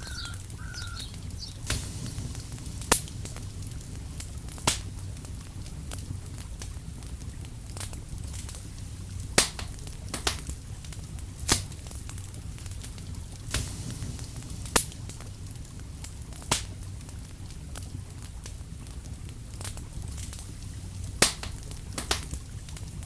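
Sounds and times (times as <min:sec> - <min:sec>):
fire crackling: 0:00.0 - 0:23.0
sharp pops from fire: 0:00.0 - 0:23.0.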